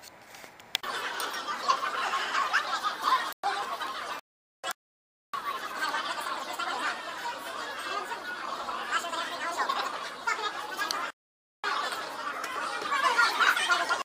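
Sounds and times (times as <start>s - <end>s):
crowd chattering and laughing: 0.8s - 4.8s, 5.4s - 14.0s.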